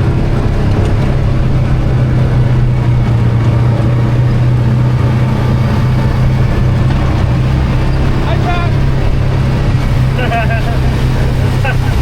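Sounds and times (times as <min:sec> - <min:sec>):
atv engine running steadily: 0:00.0 - 0:12.0
road and wind noise: 0:00.0 - 0:12.0.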